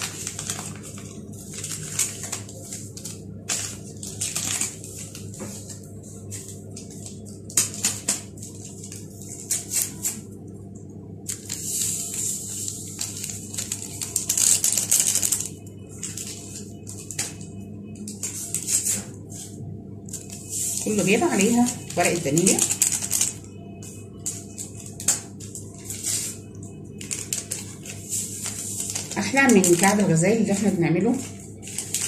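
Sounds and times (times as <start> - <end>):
paper sachet crinkling and tearing: 0.0 - 10.3, 11.2 - 19.1, 20.1 - 32.0.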